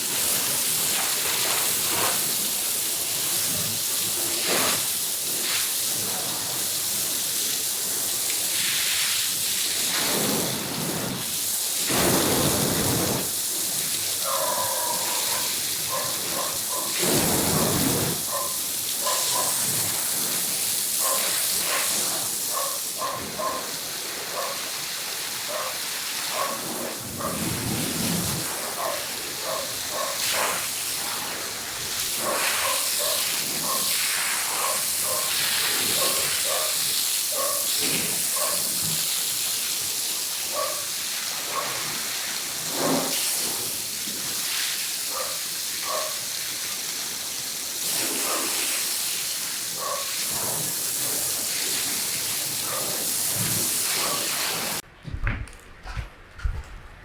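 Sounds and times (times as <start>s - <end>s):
water spraying onto carpet: 0.0s - 54.8s.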